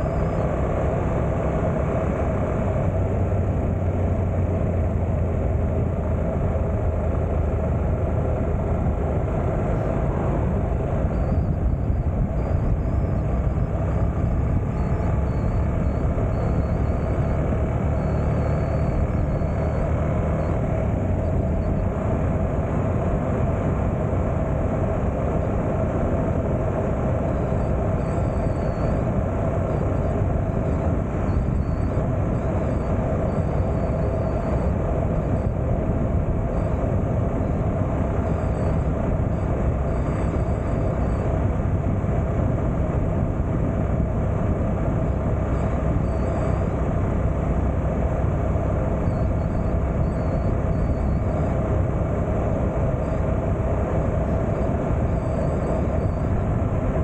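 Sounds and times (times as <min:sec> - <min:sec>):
motorcycle engine droning: 0:00.0 - 0:57.0
wind noise: 0:00.0 - 0:57.0.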